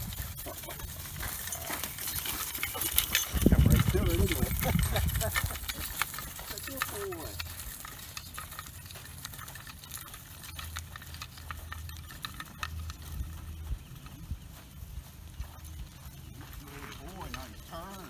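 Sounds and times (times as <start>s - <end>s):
footsteps crunching on gravel: 0.0s - 18.0s
hooves crunching on gravel: 0.0s - 18.0s.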